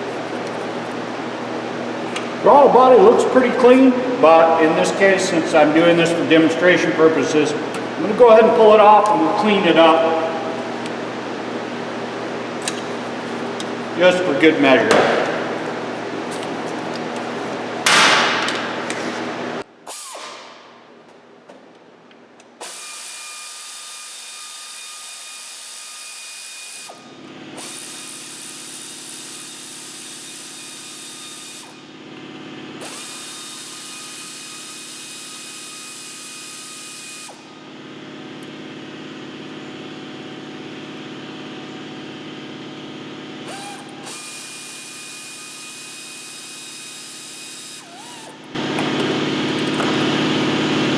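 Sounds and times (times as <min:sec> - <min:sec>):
power tool whining: 0:00.0 - 0:20.6, 0:22.6 - 0:50.9.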